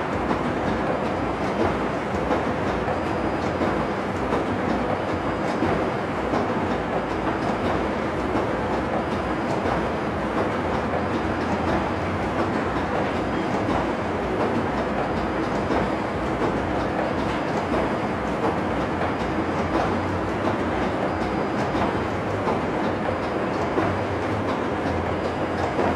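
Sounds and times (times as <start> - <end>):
printer mechanical clatter: 0.0 - 25.9.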